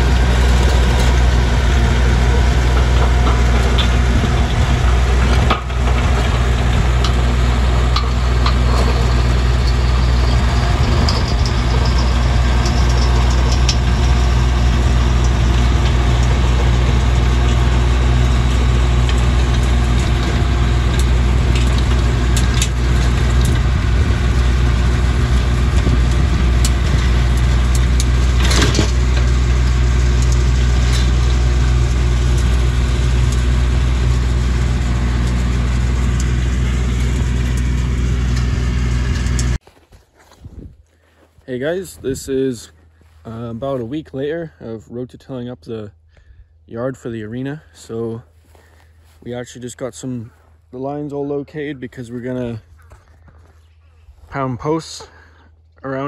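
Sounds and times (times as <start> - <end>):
rototiller working soil: 0.0 - 40.4, 41.0 - 44.8, 46.9 - 56.0
tractor engine running: 0.0 - 56.0.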